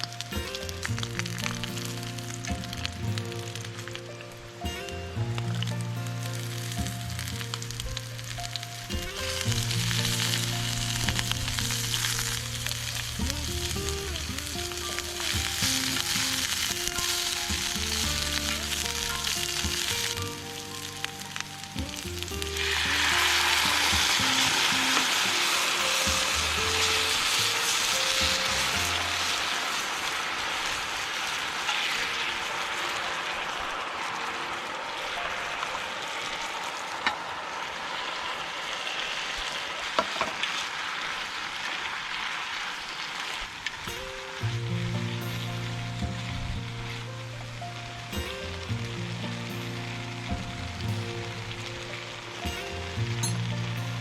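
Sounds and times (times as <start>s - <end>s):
gentle background music: 0.0s - 37.9s, 43.9s - 54.0s
food sizzling in a pan: 0.0s - 54.0s.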